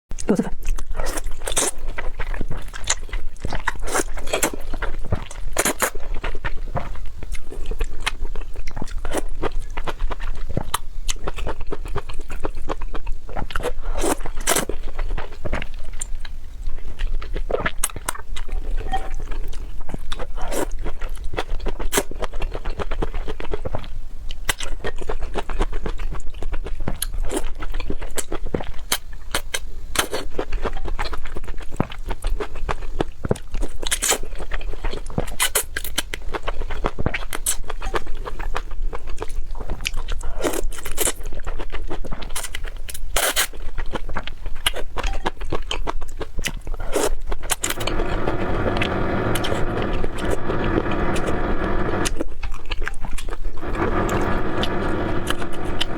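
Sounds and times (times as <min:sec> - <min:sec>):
chewing and crunching food: 0:00.1 - 0:55.9.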